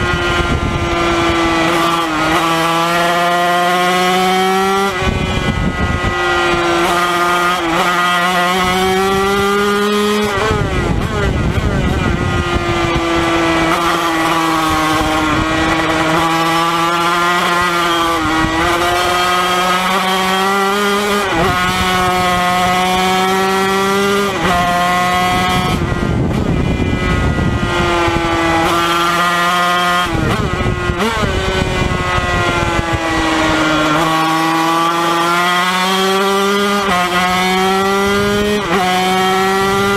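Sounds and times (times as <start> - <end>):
two-stroke racing engine revving: 0.0 - 39.9.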